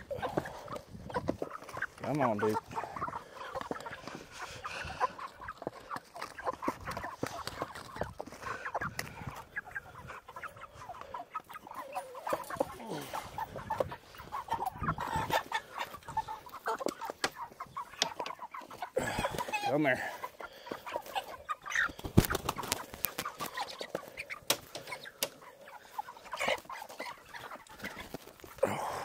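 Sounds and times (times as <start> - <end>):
poultry clucking and squawking: 0.0 - 29.0.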